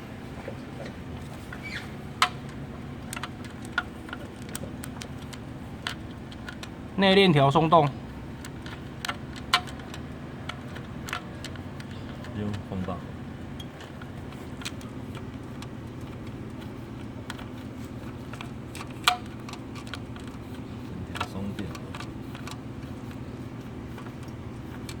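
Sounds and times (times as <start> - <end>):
car engine humming: 0.0 - 25.0
engine ticking and rattling: 0.6 - 25.0.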